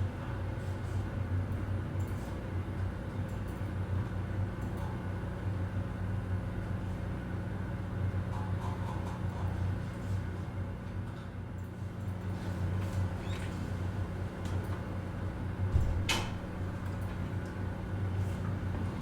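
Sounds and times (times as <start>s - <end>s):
air conditioning hum: 0.0s - 19.0s.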